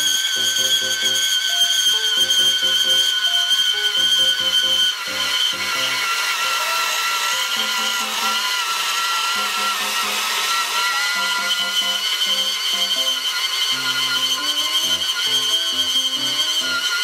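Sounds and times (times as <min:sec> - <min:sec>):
background music with simple melody: 0:00.0 - 0:17.0
band saw cutting metal: 0:00.0 - 0:17.0.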